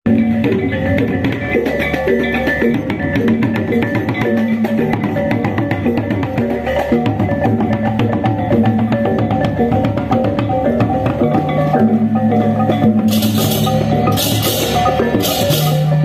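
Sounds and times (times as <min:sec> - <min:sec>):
gamelan music: 0:00.1 - 0:16.0.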